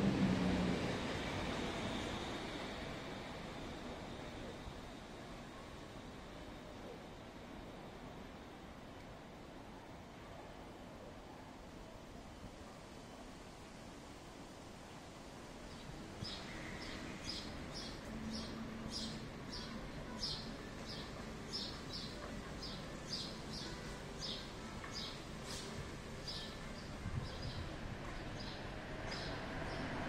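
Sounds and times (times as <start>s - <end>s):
background hiss: 0.0s - 30.0s.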